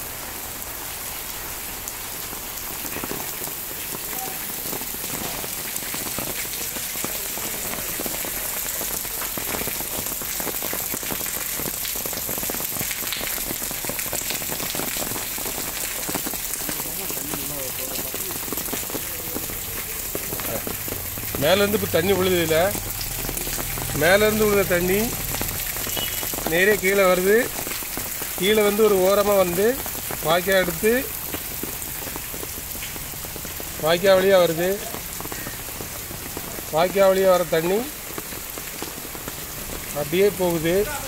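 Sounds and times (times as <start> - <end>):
rain pattering on puddles: 0.0 - 41.0.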